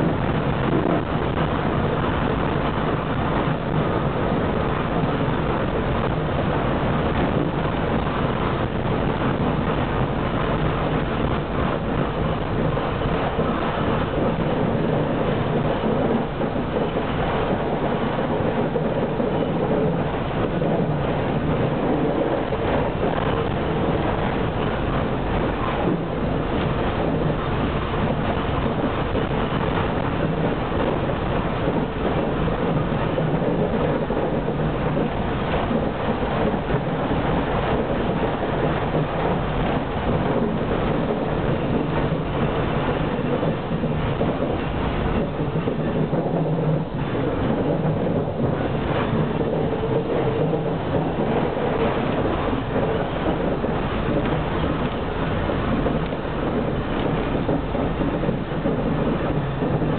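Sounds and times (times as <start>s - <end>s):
tram wheels on track: 0.0s - 59.9s.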